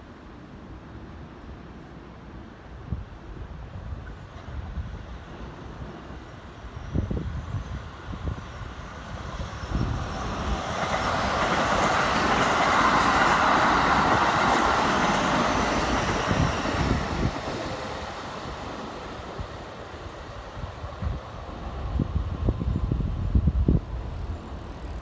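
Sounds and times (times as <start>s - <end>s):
electric train passing: 0.9s - 25.0s.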